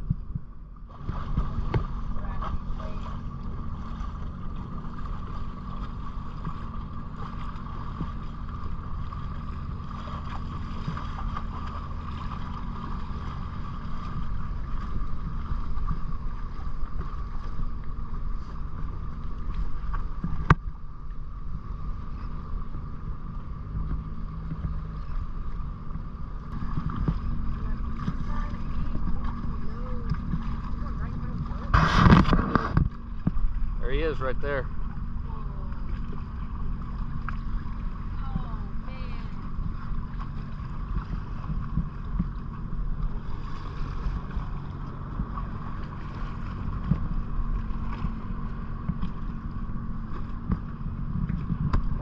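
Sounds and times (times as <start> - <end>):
boat engine rumbling with whine: 0.0 - 52.0.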